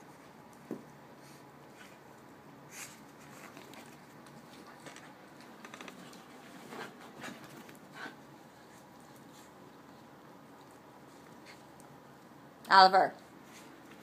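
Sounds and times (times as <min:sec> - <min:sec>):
dogs scuffling on carpet: 0:00.0 - 0:11.9.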